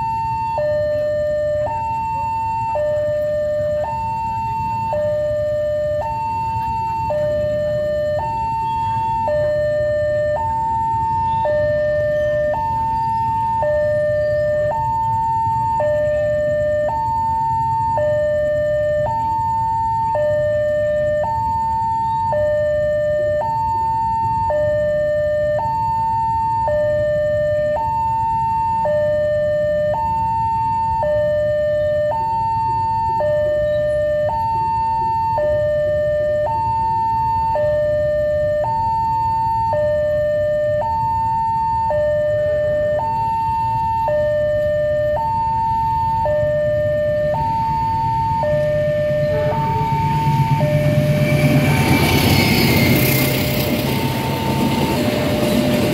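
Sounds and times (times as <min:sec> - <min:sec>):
two-tone crossing alarm: 0:00.0 - 0:55.9.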